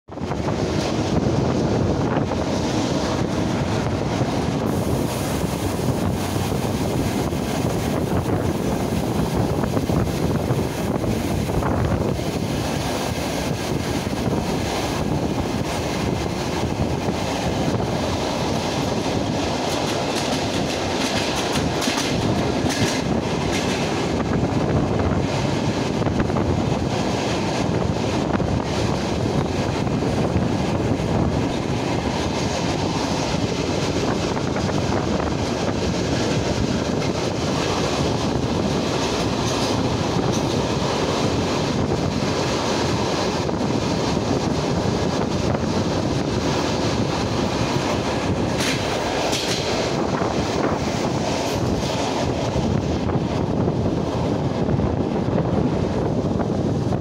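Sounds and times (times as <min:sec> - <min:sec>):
train wheels rumbling on rails: 0:00.0 - 0:57.0
rail joint clicks: 0:00.2 - 0:57.0.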